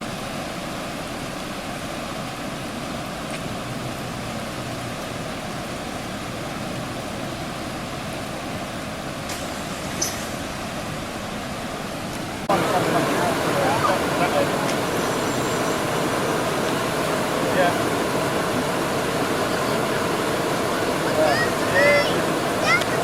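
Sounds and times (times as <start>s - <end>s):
floodwater rushing over road: 0.0s - 23.0s.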